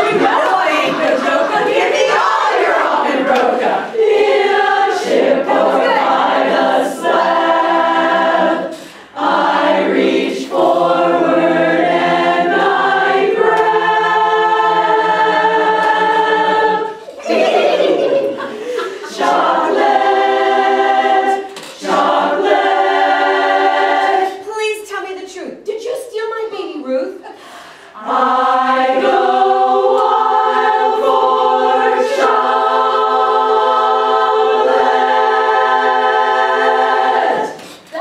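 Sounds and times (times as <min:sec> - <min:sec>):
women's chorus singing a cappella: 0:00.0 - 0:24.5, 0:27.2 - 0:38.0.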